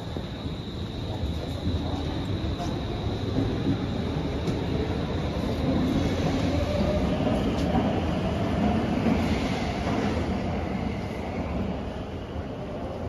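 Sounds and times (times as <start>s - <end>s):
metro train rumble: 0.0s - 13.0s.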